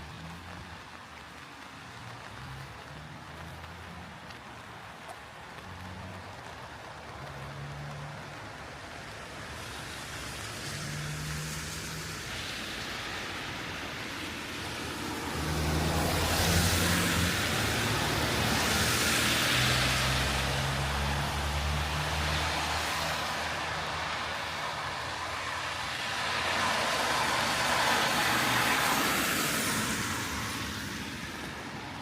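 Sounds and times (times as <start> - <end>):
tyres hissing on wet road: 0.0 - 32.0.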